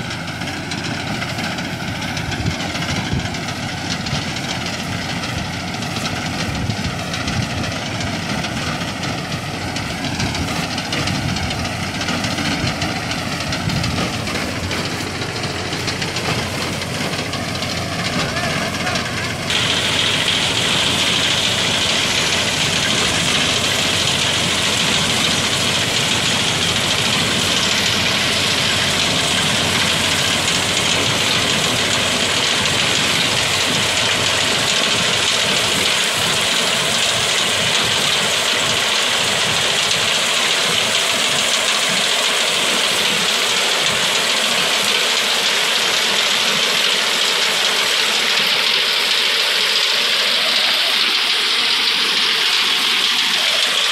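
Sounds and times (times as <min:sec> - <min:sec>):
tractor engine under load: 0:00.0 - 0:53.9.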